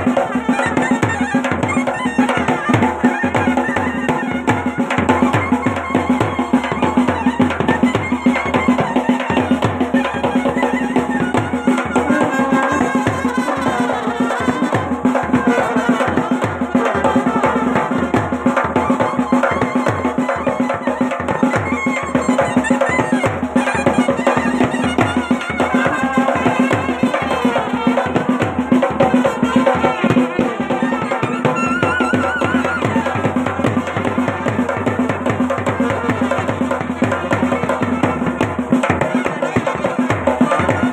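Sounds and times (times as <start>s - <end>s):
drums beating: 0.0s - 40.9s.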